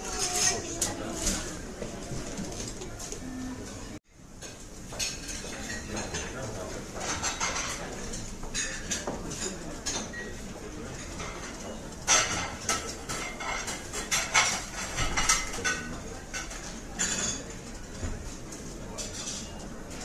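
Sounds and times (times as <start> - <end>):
cutlery and dishes clinking: 0.0 - 1.6, 4.4 - 20.0.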